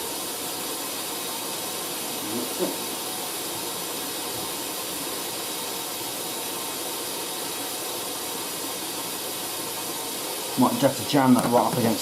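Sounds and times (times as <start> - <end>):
water running into washing machine: 0.0 - 12.0.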